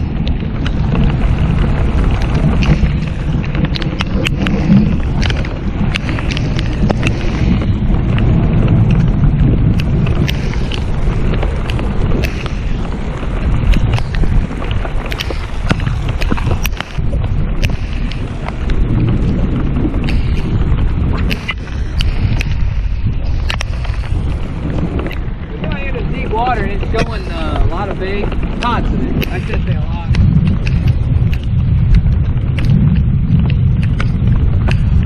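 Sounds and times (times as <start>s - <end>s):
heavy rain pelting down: 0.0s - 35.0s
raindrops tapping on camera: 0.0s - 35.0s
wind buffeting microphone: 0.0s - 35.0s.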